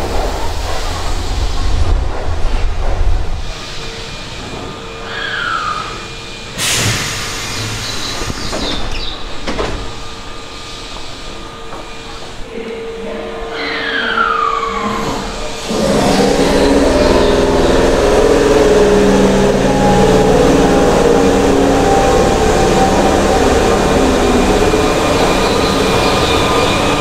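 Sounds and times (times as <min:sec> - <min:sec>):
electric train whine: 0:00.0 - 0:27.0
air compressor drone: 0:00.2 - 0:12.9, 0:13.9 - 0:27.0.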